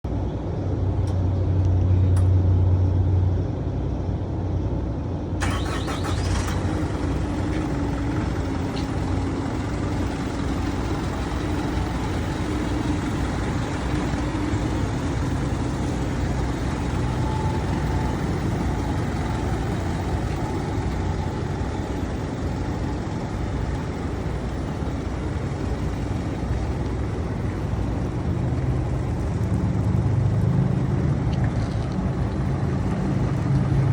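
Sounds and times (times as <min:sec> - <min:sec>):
diesel engine idling: 0:05.1 - 0:33.9.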